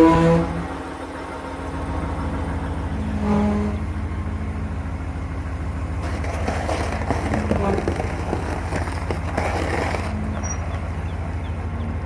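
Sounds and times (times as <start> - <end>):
pickup truck engine running: 0.1 - 12.0.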